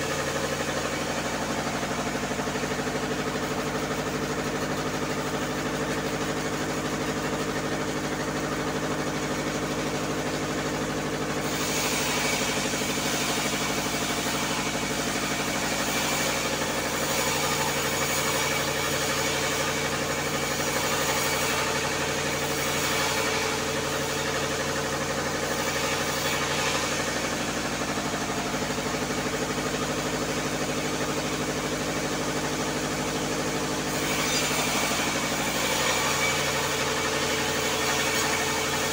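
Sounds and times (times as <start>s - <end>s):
bandsaw mill drone: 0.0s - 38.9s
saw blade rasping through log: 0.0s - 38.9s.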